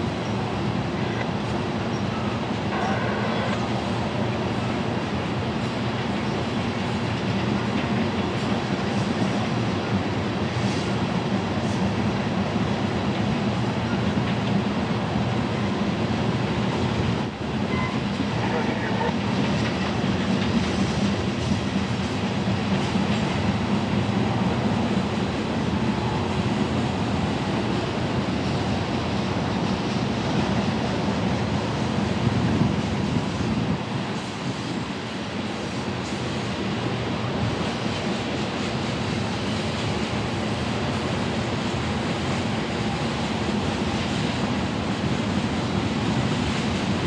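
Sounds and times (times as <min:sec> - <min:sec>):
train wheels rolling on rail: 0:00.0 - 0:47.0.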